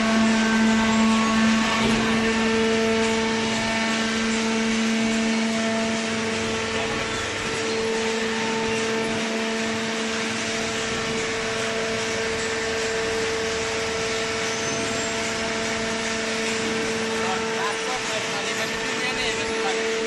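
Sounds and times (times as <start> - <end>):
shredding machine running: 0.0 - 20.0.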